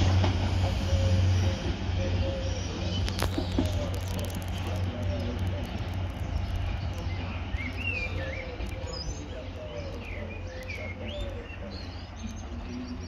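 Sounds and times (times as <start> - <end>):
steady low rumble: 0.2 - 13.0
small birds chirping: 1.2 - 13.0.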